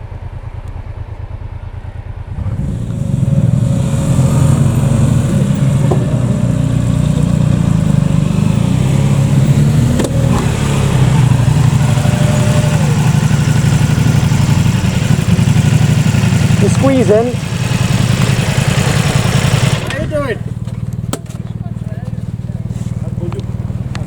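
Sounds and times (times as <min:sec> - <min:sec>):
motorcycle engine pulling under load: 0:02.3 - 0:24.0.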